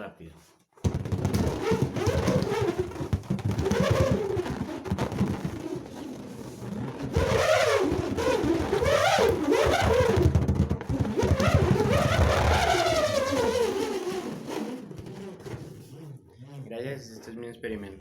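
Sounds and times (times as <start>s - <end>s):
nuts whirling inside balloon: 0.8s - 16.2s.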